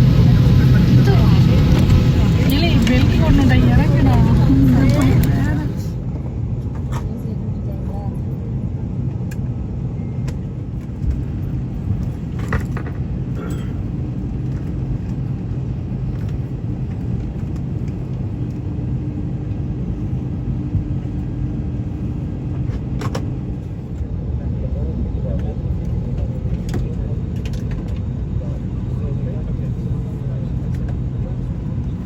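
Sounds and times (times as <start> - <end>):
vehicle interior rumble: 0.0 - 32.0.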